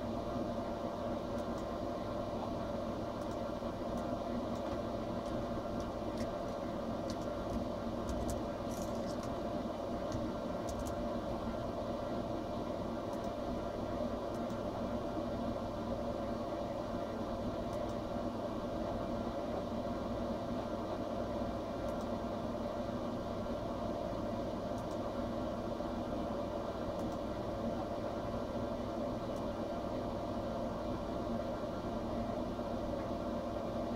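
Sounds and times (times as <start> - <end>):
mechanical hum and hiss: 0.0 - 33.9.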